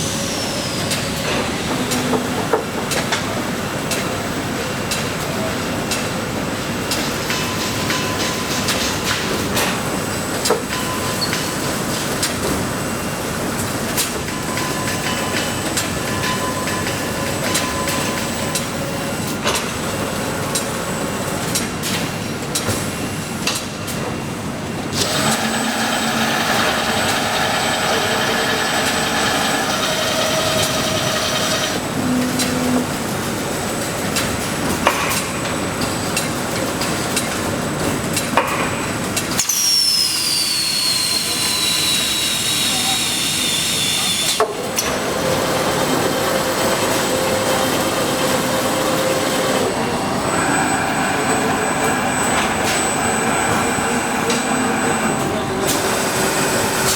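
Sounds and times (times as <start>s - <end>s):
factory machinery din: 0.0s - 39.7s, 40.8s - 56.9s.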